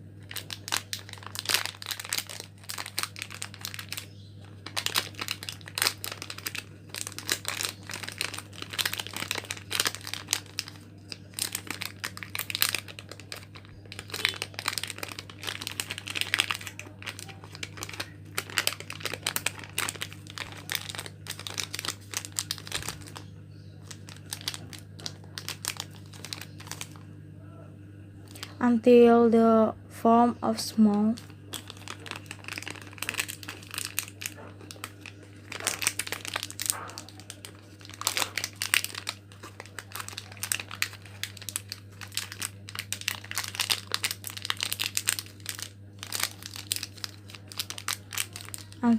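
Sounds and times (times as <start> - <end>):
wrappers crinkling: 0.0 - 27.1, 28.2 - 28.8, 30.8 - 48.9
steady low hum: 0.0 - 48.9.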